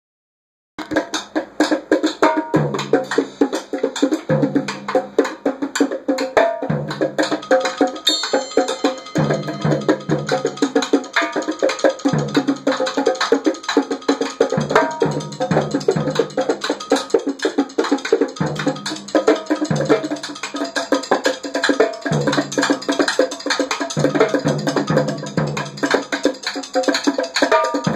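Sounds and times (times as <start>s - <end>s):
drums and wood-like hits: 0.8s - 27.9s.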